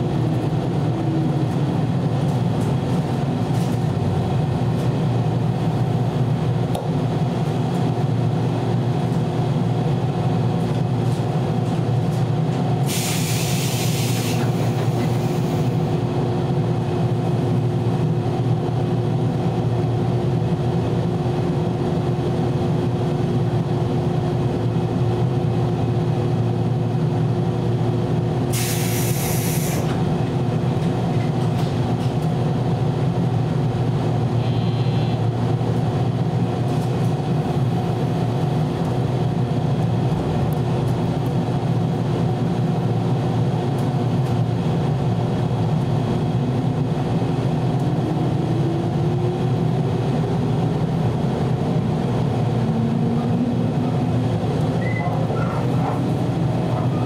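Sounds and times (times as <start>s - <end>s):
train hum and rumble: 0.0s - 57.0s.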